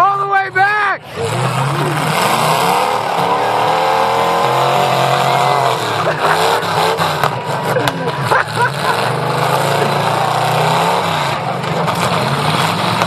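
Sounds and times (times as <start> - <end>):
car engine running loudly: 0.0 - 13.0.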